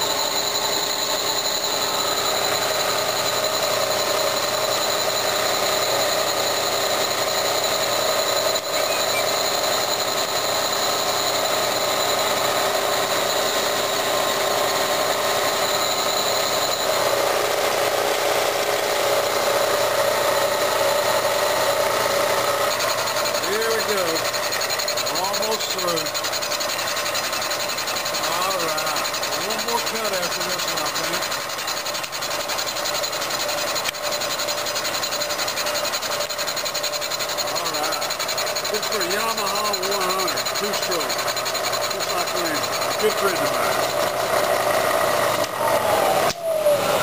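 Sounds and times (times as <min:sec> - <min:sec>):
milling machine whine: 0:00.0 - 0:47.0.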